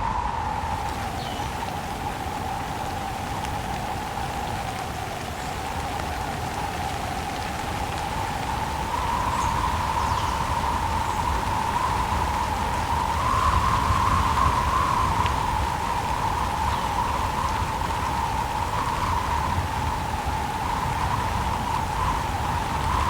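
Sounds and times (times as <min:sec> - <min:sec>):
gusting wind: 0:00.0 - 0:23.0
steady rain: 0:00.0 - 0:23.0.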